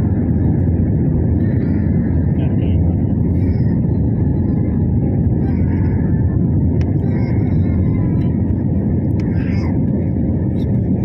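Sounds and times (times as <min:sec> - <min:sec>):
airliner cabin engine roar: 0:00.0 - 0:11.0.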